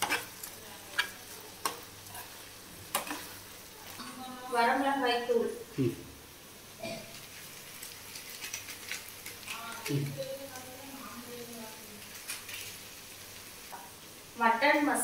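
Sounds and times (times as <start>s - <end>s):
frying sizzle with crackles: 0.0s - 15.0s.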